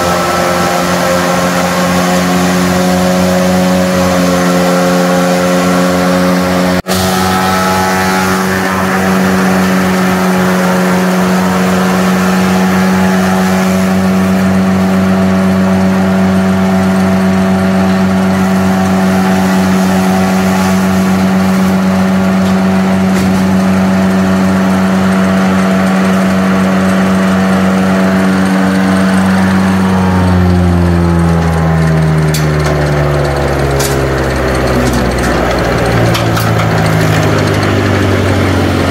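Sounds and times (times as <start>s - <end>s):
forage chopper chopping stalks: 0.0s - 38.9s
tractor diesel engine at high revs: 0.0s - 38.9s.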